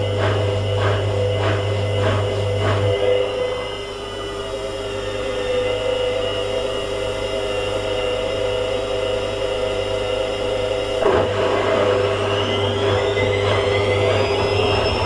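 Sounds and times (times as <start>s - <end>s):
washing machine spinning and draining: 0.0s - 15.0s.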